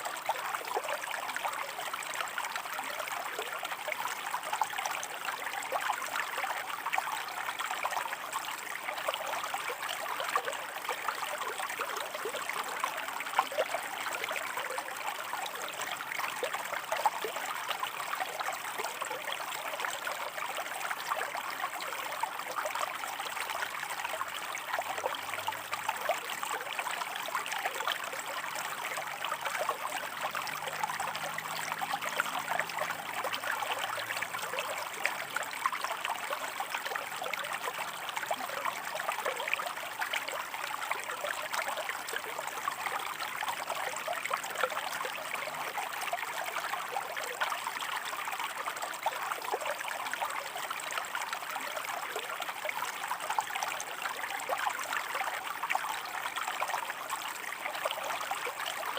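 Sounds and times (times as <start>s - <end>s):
river water running over rocks: 0.0s - 58.9s.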